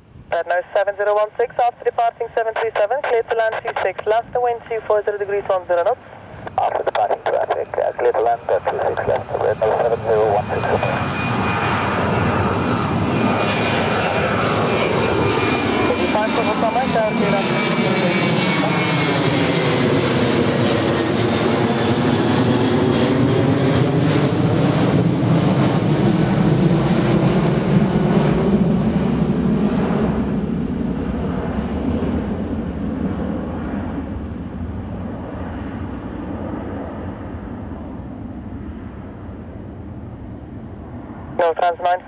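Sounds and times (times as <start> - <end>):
jet engines rumbling and whining: 0.0 - 42.0.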